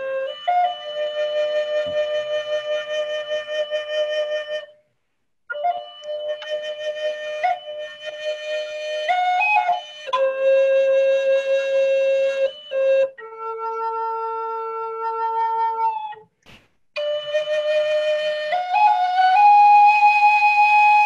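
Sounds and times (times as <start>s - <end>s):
flute playing long notes: 0.0s - 4.8s, 5.5s - 16.3s, 17.0s - 21.0s.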